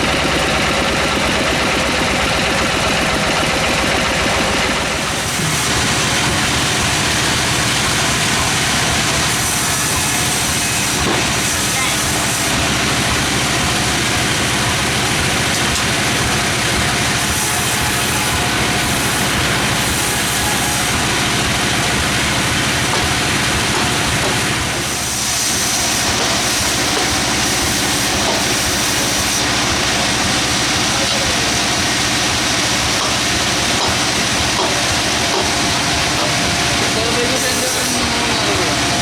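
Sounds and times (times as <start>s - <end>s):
engine drone: 0.0s - 39.0s
high-pitched saw noise: 5.0s - 39.0s.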